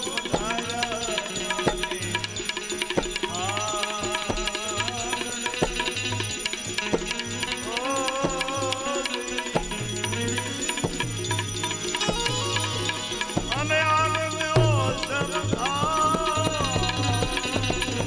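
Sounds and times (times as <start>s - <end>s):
devotional music: 0.0s - 18.0s
hand drum beat: 0.0s - 18.0s.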